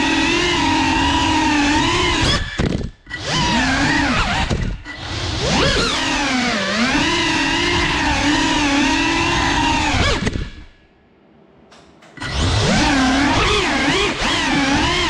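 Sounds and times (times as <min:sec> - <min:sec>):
drone motors whining: 0:00.0 - 0:10.8, 0:12.0 - 0:15.0.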